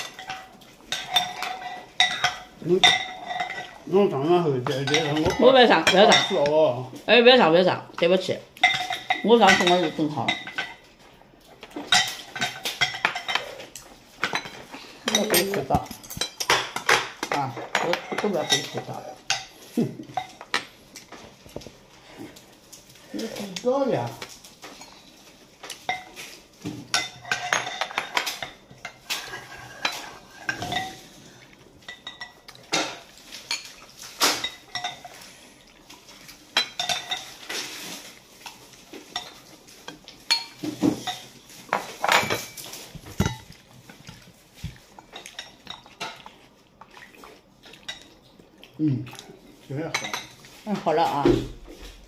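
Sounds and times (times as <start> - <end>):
utensils clinking on plates: 0.0 - 6.8, 8.6 - 11.0, 11.6 - 46.5, 49.5 - 51.2.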